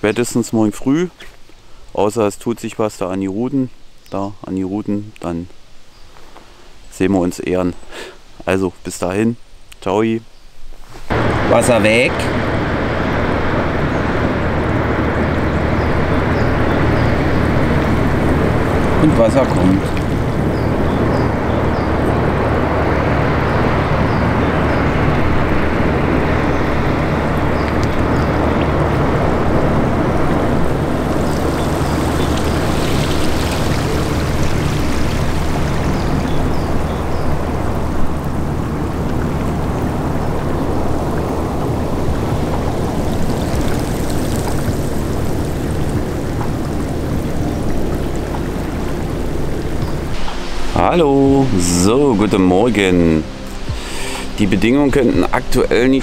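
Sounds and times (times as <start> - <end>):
river water rushing and surging: 11.1 - 56.0
steady low hum: 11.1 - 56.0.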